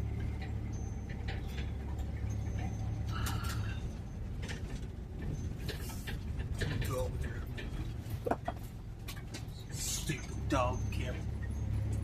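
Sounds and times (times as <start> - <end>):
van body rattling: 0.0 - 12.0
van engine droning: 0.0 - 12.0.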